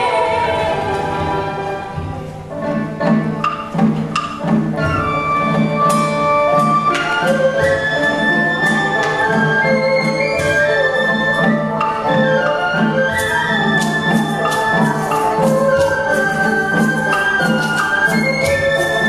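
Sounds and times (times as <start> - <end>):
melodic instruments holding long notes: 0.0 - 19.0
sharp percussion strikes: 0.0 - 19.0.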